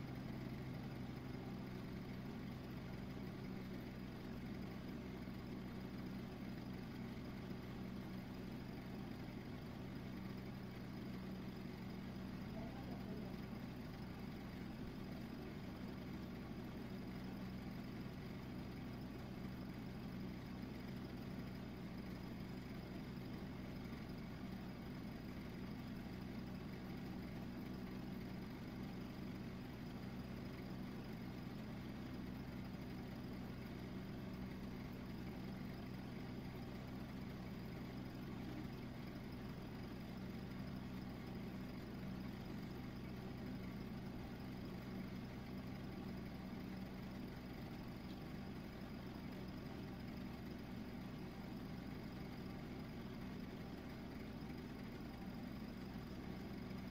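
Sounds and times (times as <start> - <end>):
low machine hum: 0.0 - 56.9.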